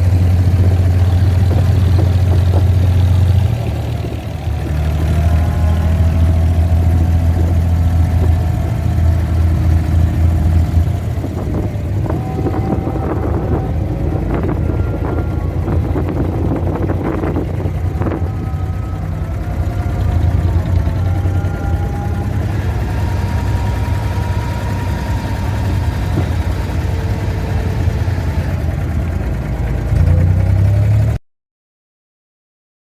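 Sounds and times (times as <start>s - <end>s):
boat engine humming: 0.0s - 31.2s.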